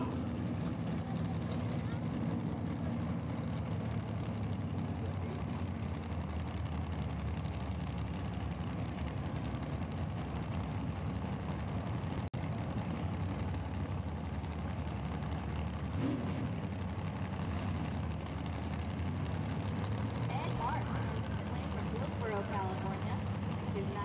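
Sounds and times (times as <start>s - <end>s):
race car engine idling: 0.0s - 24.0s.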